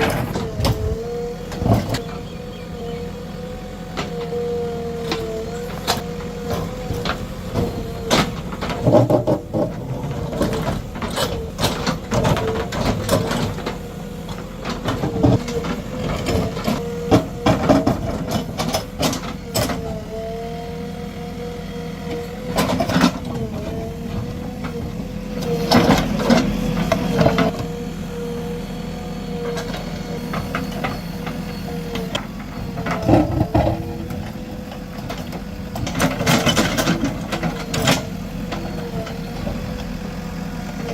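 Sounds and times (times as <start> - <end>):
diesel engine humming: 0.0 - 40.9.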